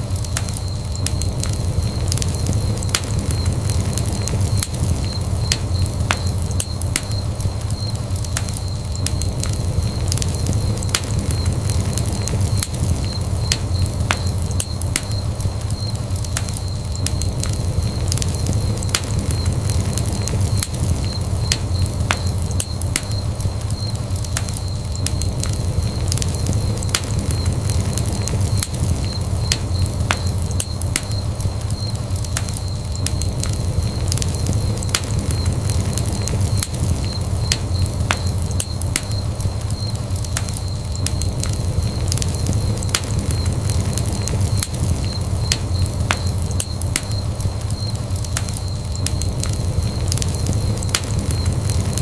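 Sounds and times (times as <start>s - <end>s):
fire crackles and pops: 0.0s - 52.0s
low rumble of flames: 0.0s - 52.0s.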